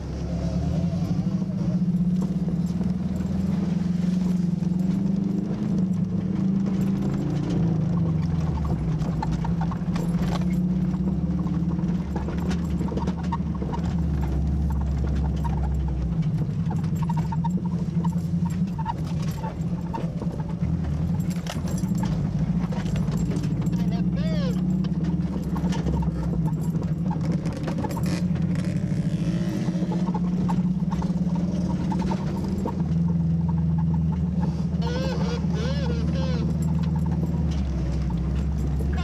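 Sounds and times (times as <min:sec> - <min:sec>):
car engine drone: 0:00.0 - 0:39.0.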